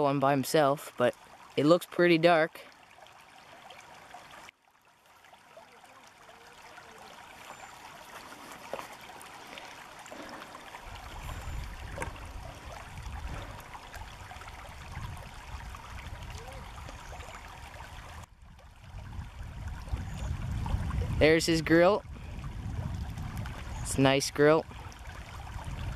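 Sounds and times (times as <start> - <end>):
faint water splashes: 0.0 - 25.9
shallow river running: 0.0 - 25.9.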